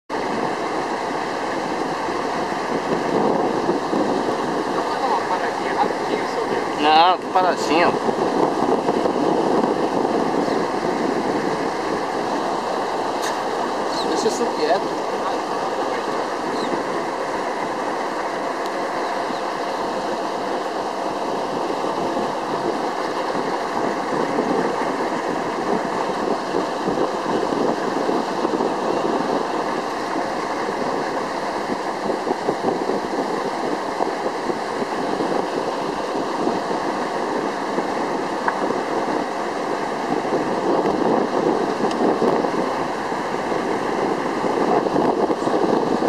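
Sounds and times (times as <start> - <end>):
motorboat engine drone: 0.0 - 46.0
water rushing along hull: 0.0 - 46.0.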